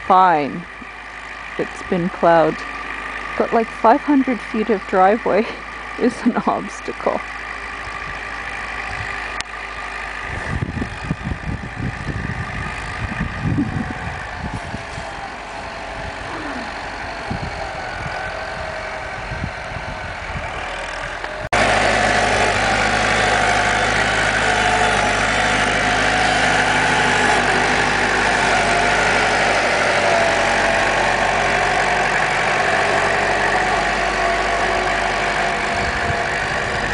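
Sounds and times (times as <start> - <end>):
low buffeting noise: 0.0 - 36.9
tractor engine running: 0.0 - 36.9.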